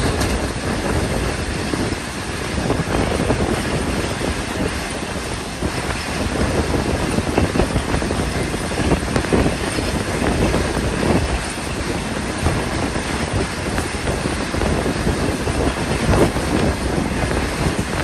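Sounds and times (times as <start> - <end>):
train wheels rumbling and rattling: 0.0 - 18.0
wind noise: 0.0 - 18.0.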